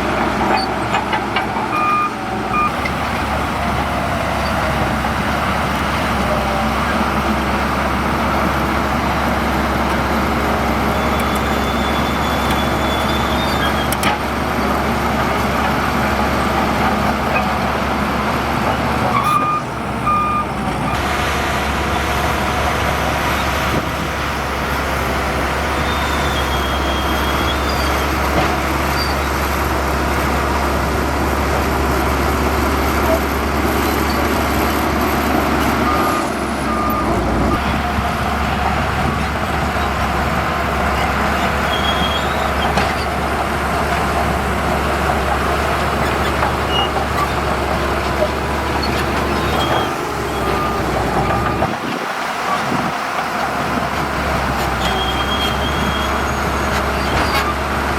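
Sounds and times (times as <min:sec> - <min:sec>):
heavy machinery diesel engine running: 0:00.0 - 0:57.9.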